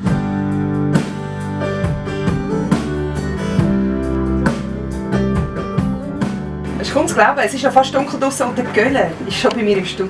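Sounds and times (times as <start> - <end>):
acoustic guitars strumming chords: 0.0 - 10.0
low bass notes: 0.0 - 10.0.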